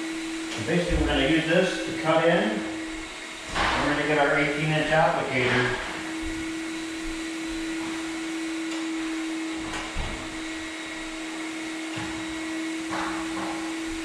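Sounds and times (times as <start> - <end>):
electric machine humming: 0.0 - 14.0.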